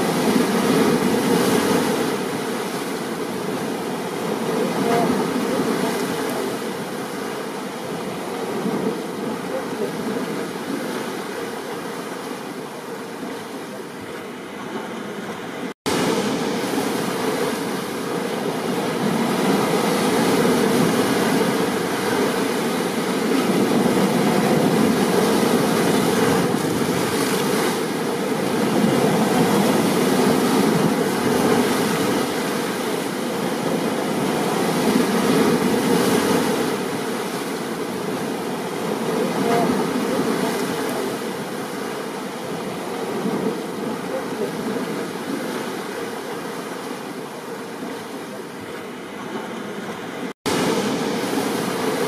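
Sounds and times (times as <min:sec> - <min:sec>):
stormy ocean surf: 0:00.0 - 0:52.0.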